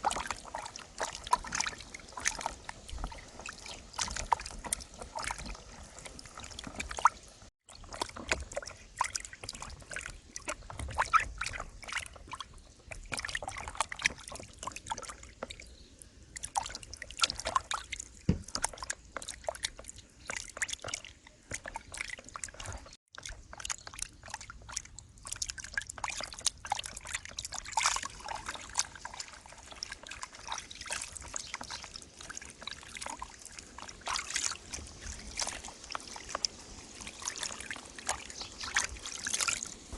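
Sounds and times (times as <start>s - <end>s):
fish deep frying in oil: 0.0s - 39.9s.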